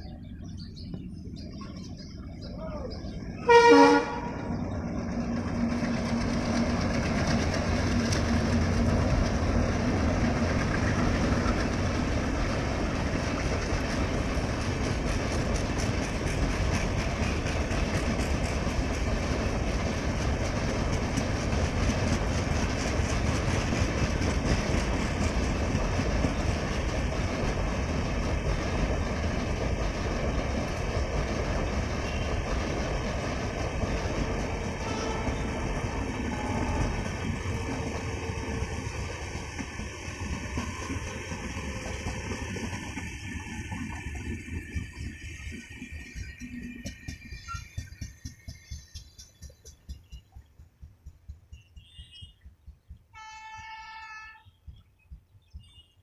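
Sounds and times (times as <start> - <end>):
train rumble: 0.0 - 56.0
train wheels clattering over rails: 3.2 - 56.0.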